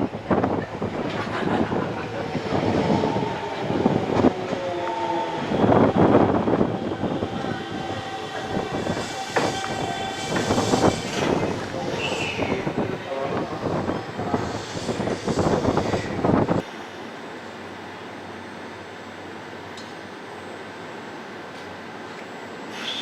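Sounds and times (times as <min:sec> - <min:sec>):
steady high whine: 0:00.0 - 0:23.0.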